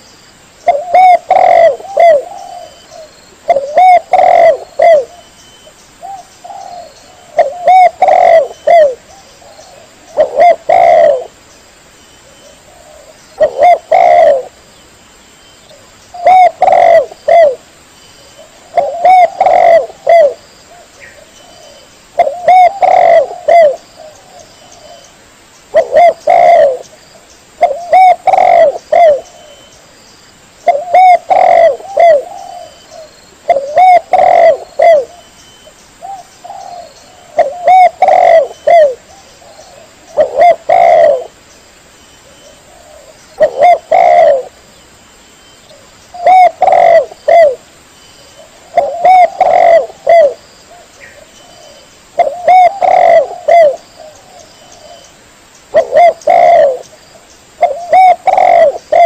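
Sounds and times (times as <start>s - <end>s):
dove cooing: 0.6s - 5.3s, 6.0s - 11.4s, 12.2s - 14.6s, 15.7s - 17.6s, 18.4s - 25.1s, 25.7s - 26.9s, 27.6s - 29.7s, 30.6s - 35.3s, 36.0s - 41.4s, 42.2s - 44.6s, 45.7s - 47.7s, 48.4s - 55.1s, 55.7s - 57.0s, 57.6s - 59.0s.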